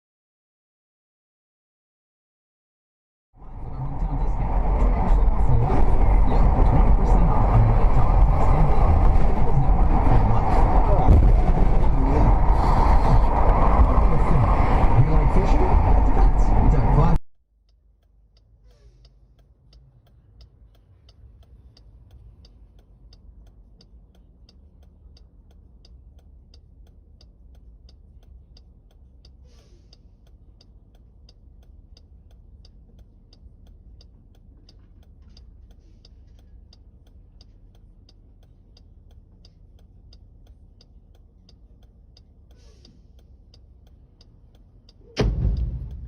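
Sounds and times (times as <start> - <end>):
faint low rumble: 3.4 - 46.0
steady ticking: 3.6 - 46.0.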